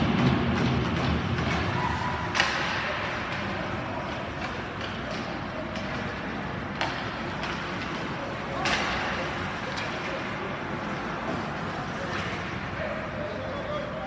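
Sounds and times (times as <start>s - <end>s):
ice rink background noise: 0.0s - 14.0s.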